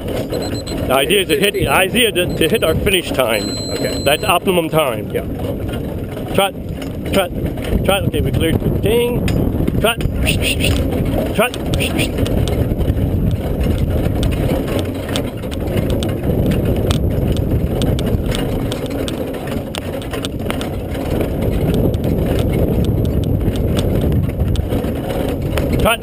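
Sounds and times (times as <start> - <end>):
carriage and harness rattling: 0.0 - 26.0
carriage rumbling: 0.0 - 26.0.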